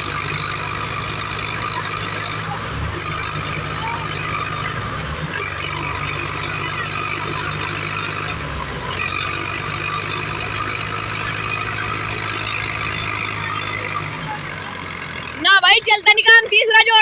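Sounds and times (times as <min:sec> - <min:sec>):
tractor diesel engines straining: 0:00.0 - 0:17.0.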